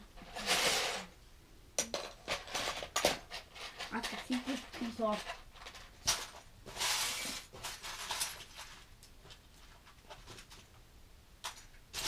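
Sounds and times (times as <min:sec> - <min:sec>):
plastic pieces rustling: 0:00.2 - 0:01.1, 0:01.9 - 0:10.8, 0:11.4 - 0:12.0.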